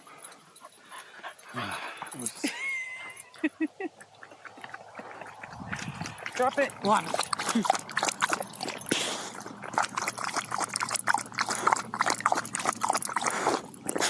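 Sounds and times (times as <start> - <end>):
dog panting: 0.0 - 3.6, 4.2 - 14.0.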